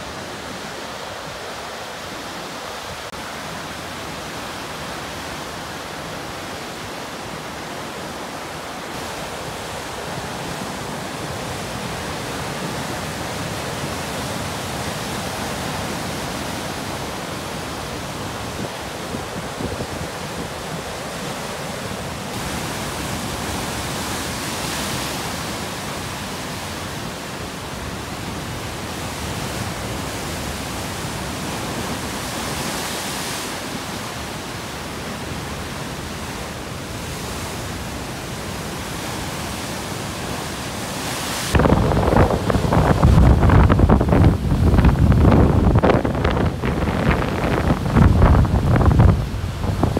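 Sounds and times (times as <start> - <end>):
strong wind: 0.0 - 49.9
surf crashing: 8.6 - 49.9.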